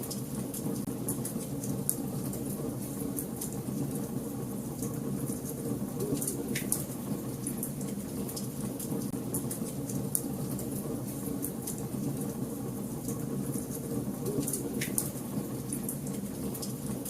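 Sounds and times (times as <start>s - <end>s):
wood fire crackling: 0.1s - 16.9s.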